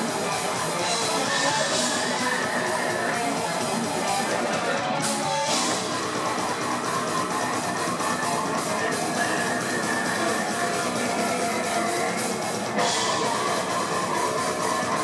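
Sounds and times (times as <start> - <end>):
distorted electric guitars: 0.0 - 15.0
drums: 0.0 - 15.0.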